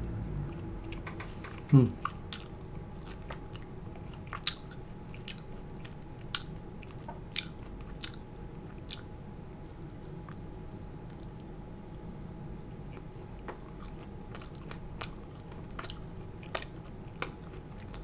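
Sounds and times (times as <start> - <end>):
person chewing crispy food: 0.0 - 18.0.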